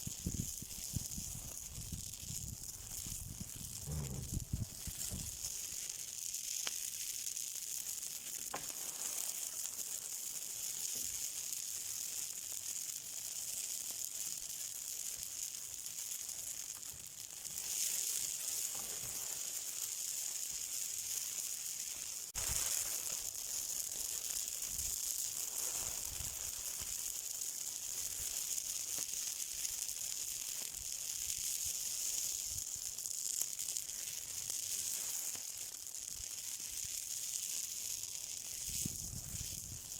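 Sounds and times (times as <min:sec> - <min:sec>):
faint crackles: 0:00.0 - 0:39.9
high hiss of burning: 0:00.0 - 0:39.9.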